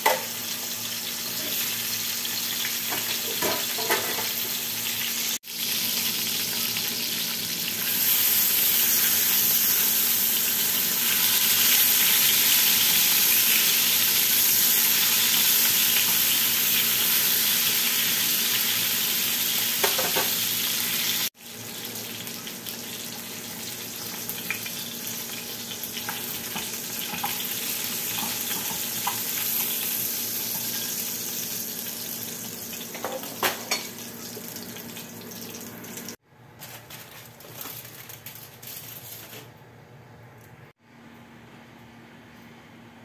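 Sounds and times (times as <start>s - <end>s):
fish fillets sizzling in oil: 0.2s - 36.2s.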